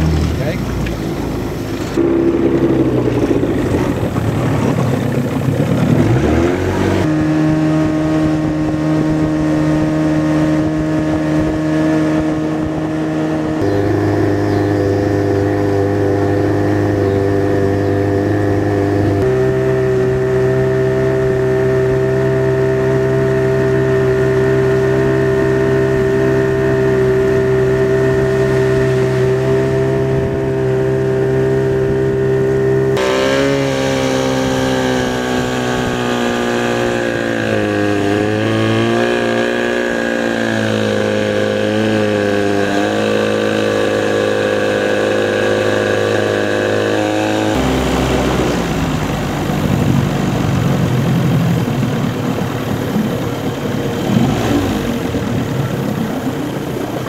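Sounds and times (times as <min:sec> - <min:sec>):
outboard motor running: 0:00.0 - 0:57.0
water noise: 0:00.0 - 0:57.0.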